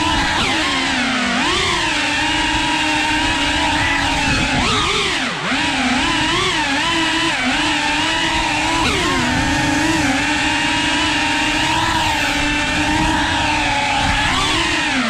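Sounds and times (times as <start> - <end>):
small drone motors whining: 0.0 - 15.0.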